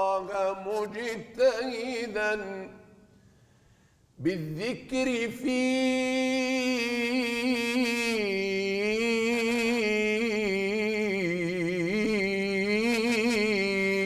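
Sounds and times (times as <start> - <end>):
man singing devotional chant: 0.0 - 2.8, 4.2 - 14.0.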